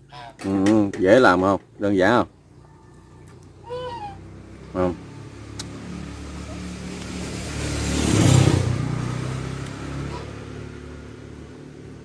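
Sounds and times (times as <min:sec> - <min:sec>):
vehicle passing by: 0:02.0 - 0:12.0.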